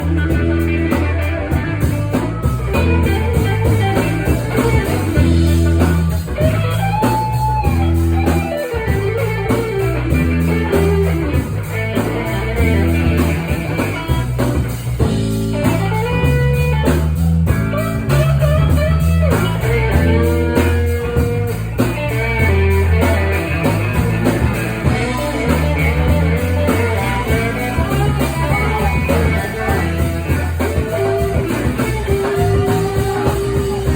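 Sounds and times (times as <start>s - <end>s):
bass line: 0.0s - 33.9s
electric guitar lead: 0.0s - 33.9s
steady drum beat: 0.0s - 33.9s.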